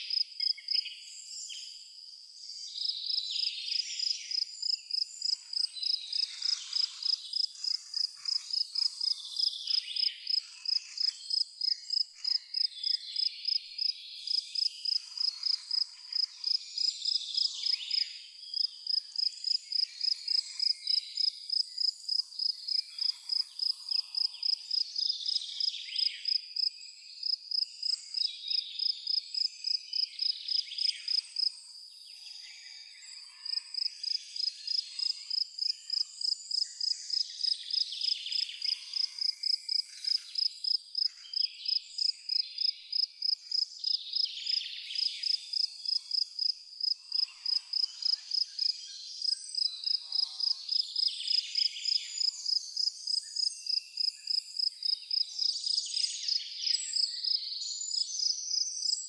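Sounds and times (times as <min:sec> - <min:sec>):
cricket chirping: 0:00.0 - 0:02.1, 0:02.7 - 0:32.2, 0:33.1 - 0:59.0.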